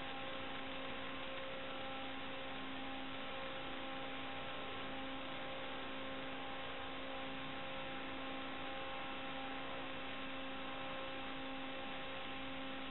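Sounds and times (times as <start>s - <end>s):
constant electrical hum: 0.0s - 12.9s.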